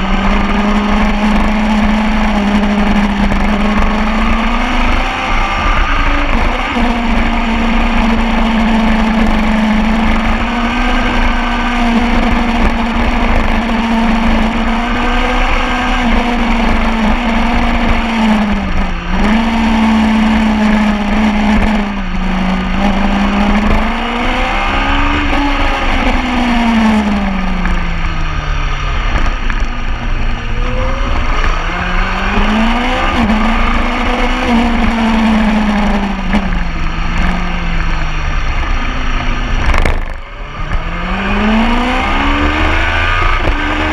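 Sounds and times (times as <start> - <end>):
motorcycle engine revving high: 0.0 - 43.9
steady rush of noise: 0.0 - 43.9.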